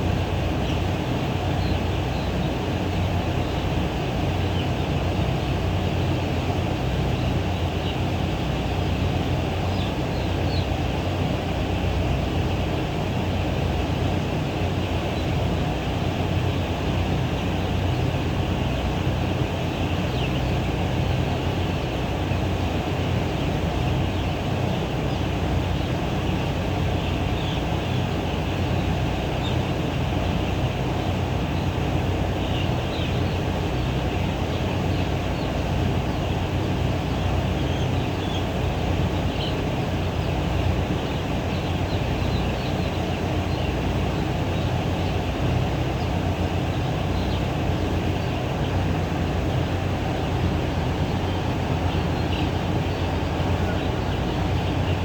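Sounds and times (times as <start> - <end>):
low rumbling noise: 0.0 - 55.0.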